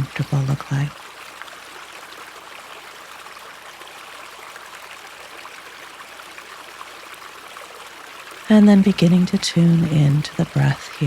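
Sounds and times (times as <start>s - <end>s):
river running over rocks: 0.0s - 11.0s.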